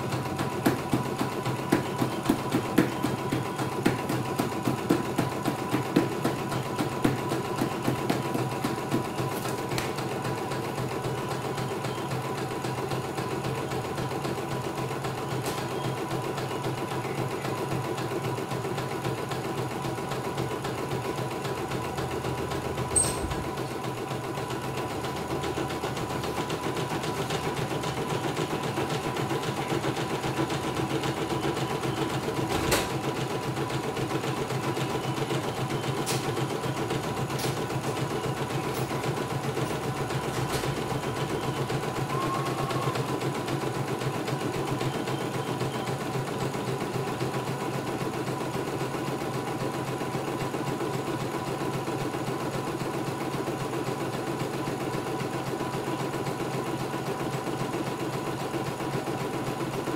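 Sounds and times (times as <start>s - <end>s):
embroidery machine stitching: 0.0s - 59.9s.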